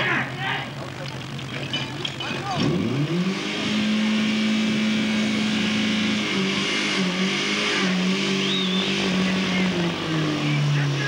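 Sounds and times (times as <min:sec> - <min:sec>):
pump engine running at high revs: 0:00.0 - 0:11.0.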